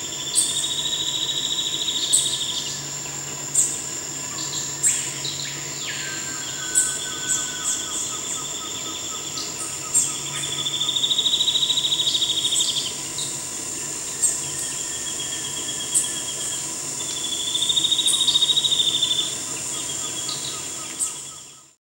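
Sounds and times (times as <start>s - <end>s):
high insect drone: 0.0s - 21.8s.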